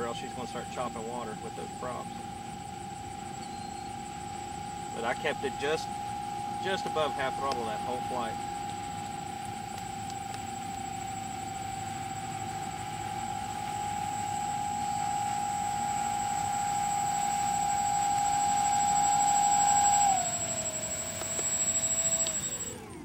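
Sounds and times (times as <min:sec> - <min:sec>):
model plane motors whining: 0:00.0 - 0:23.0.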